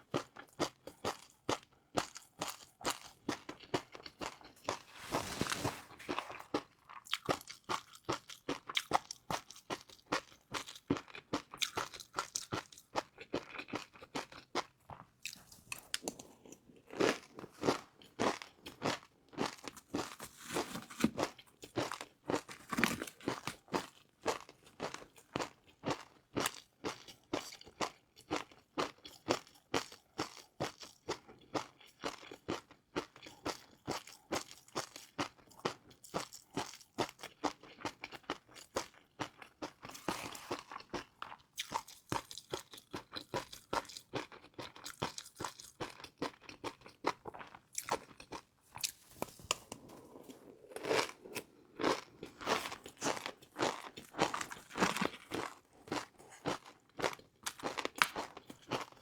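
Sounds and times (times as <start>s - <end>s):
person chewing crispy noodles: 0.0s - 59.0s.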